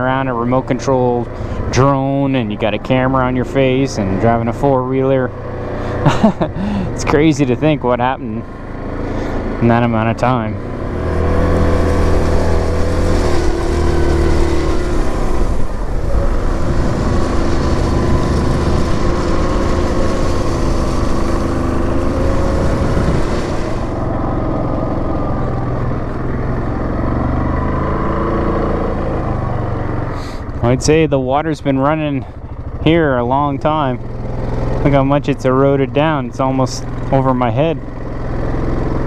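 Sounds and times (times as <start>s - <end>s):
atv engine running: 0.0s - 39.0s.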